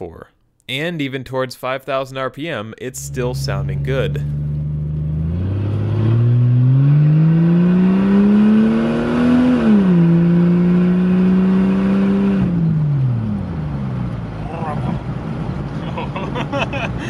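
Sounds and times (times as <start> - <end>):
car engine accelerating and shifting: 3.0 - 17.0.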